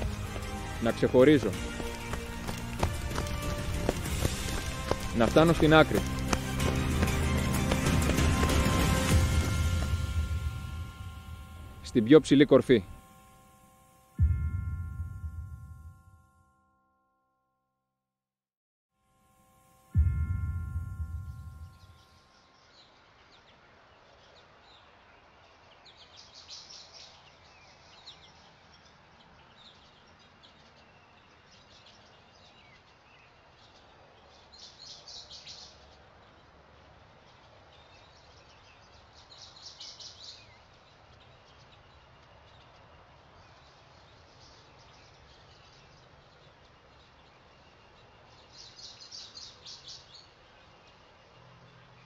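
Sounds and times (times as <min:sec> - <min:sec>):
bird chirping trills: 0:00.0 - 0:17.0, 0:19.3 - 0:52.0.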